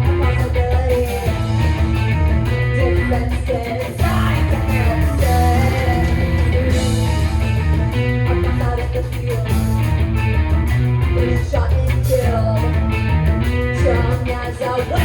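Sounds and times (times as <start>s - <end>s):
electric guitar: 0.0s - 15.0s
heavy bass line: 0.0s - 15.0s.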